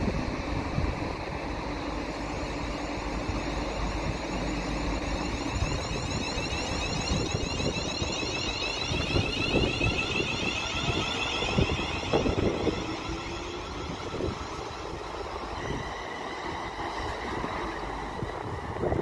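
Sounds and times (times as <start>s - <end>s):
high whine of rising tones: 0.0s - 19.0s
train wheels rumbling on rail: 0.0s - 19.0s.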